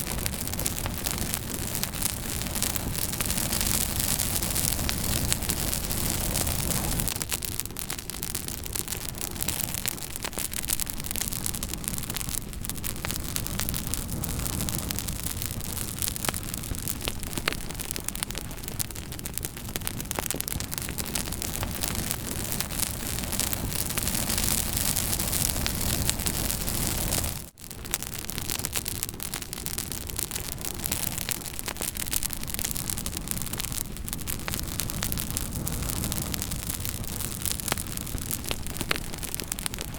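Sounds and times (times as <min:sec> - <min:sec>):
campfire flames hissing: 0:00.0 - 0:39.9
fire crackling and popping: 0:00.0 - 0:39.9.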